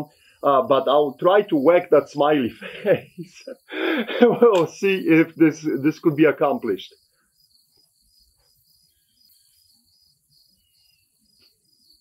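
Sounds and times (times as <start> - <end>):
faint insect trill: 0.1 - 12.0.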